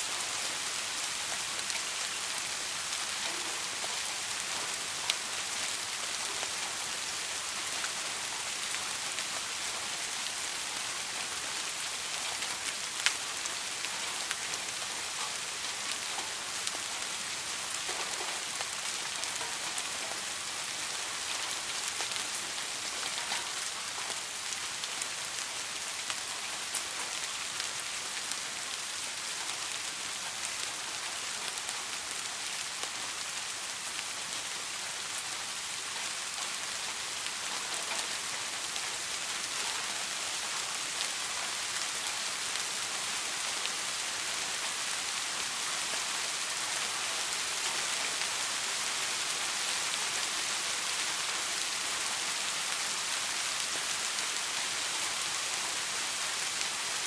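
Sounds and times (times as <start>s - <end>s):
soft rain pattering: 0.0s - 57.0s.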